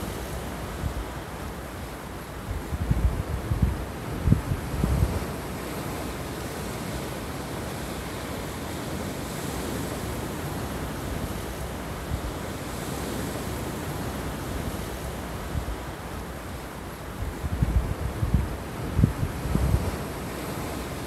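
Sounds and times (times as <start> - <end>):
wind rumbling on microphone: 2.4 - 16.4, 17.0 - 21.0.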